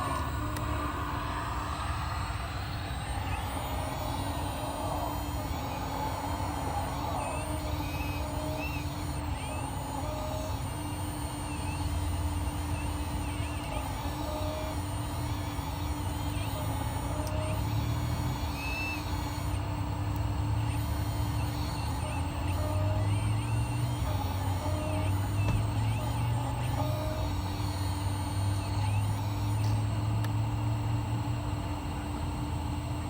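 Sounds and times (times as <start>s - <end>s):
hydraulic pump humming: 0.0s - 33.0s.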